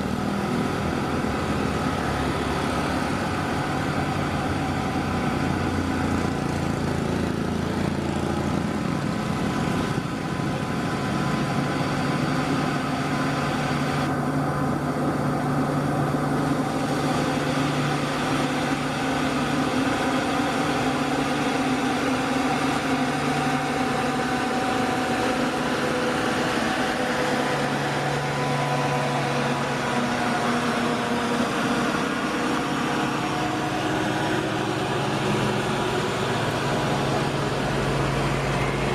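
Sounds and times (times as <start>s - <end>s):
model excavator motor whine: 0.0s - 38.9s.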